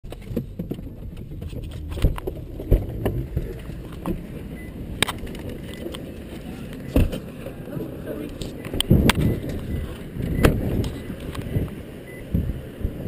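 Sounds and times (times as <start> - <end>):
low rumble in car cabin: 0.1 - 13.0.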